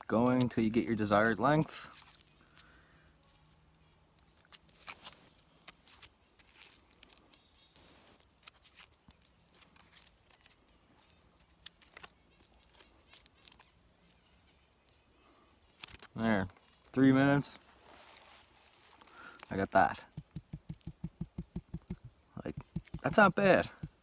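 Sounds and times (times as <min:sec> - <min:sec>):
dry plant fibers crackling: 0:00.0 - 0:24.0.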